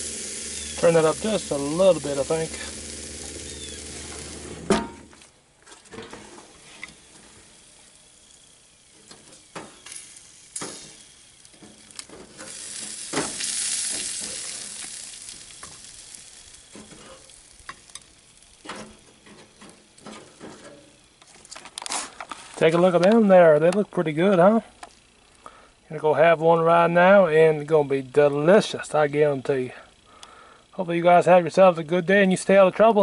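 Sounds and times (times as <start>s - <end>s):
steaks sizzling on grill: 0.0s - 5.0s, 6.1s - 33.0s.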